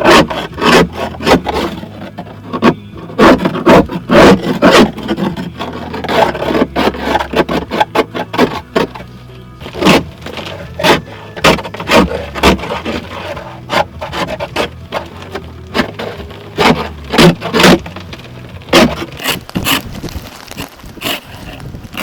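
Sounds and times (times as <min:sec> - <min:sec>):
ice scraper scraping ice off car: 0:00.0 - 0:22.0.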